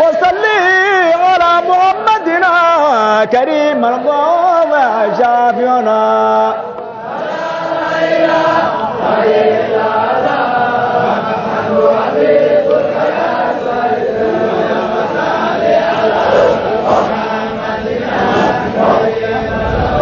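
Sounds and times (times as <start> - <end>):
group of men chanting: 0.0 - 20.0.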